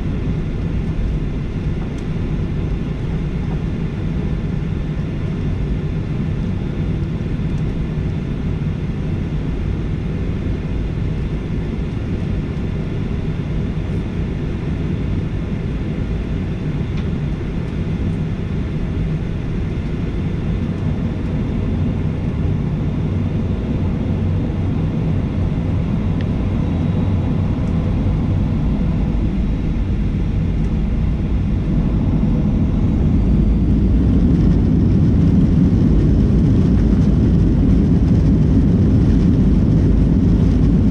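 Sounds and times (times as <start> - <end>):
airplane cabin engine noise: 0.0 - 40.9.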